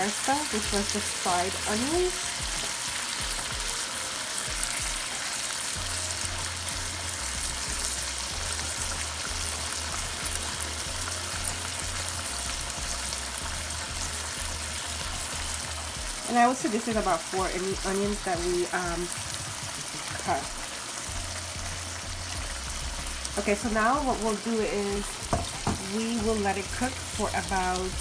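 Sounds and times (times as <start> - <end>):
chicken sizzling in hot oil: 0.0 - 28.0.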